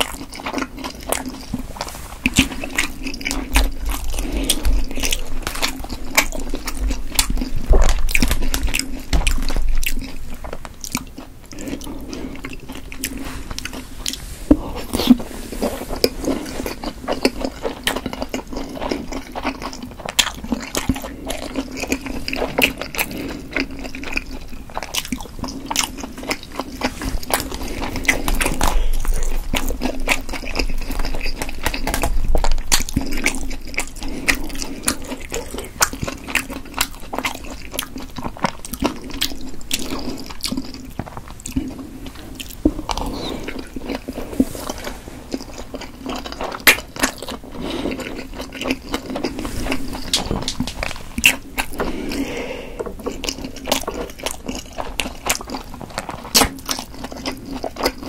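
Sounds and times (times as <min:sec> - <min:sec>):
chewing with wet mouth sounds: 0:00.0 - 0:58.0.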